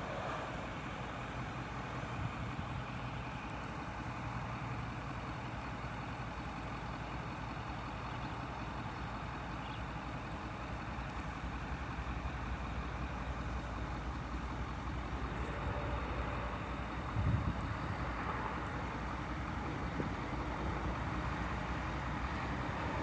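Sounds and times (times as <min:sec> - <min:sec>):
distant freight train rumble: 0:00.0 - 0:23.0.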